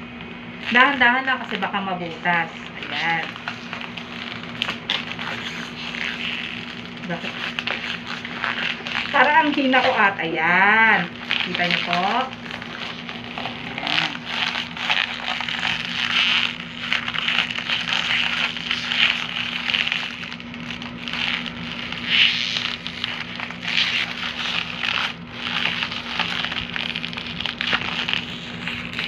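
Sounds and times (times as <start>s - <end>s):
plastic bag crinkling: 0.6s - 29.0s.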